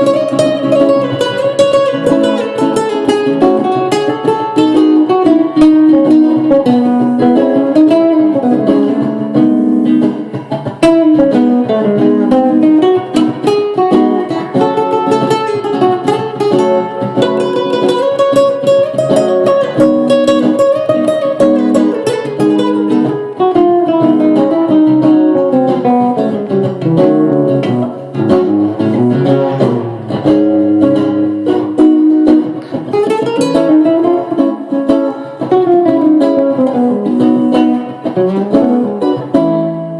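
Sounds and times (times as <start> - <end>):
solo guitar plucked notes: 0.0 - 39.9.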